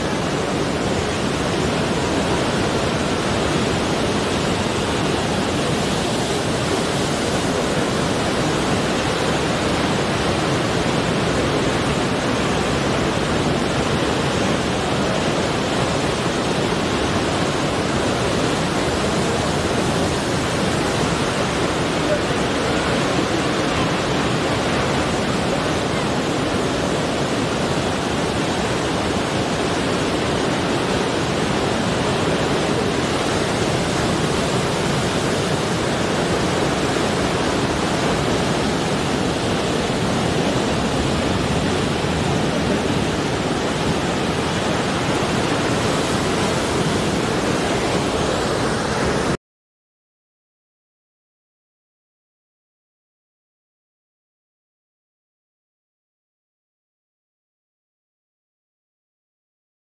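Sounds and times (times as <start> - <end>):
ocean surf on rocks: 0.0 - 49.4.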